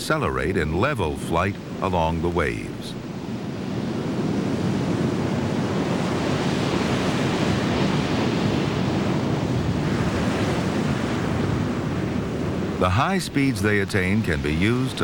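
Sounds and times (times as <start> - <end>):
ocean waves: 0.0 - 15.0
wind: 0.0 - 15.0.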